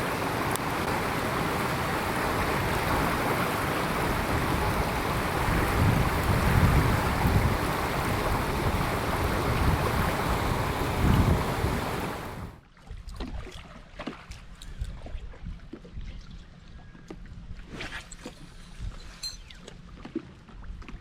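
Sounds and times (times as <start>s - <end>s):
rushing wind and water: 0.0s - 21.0s.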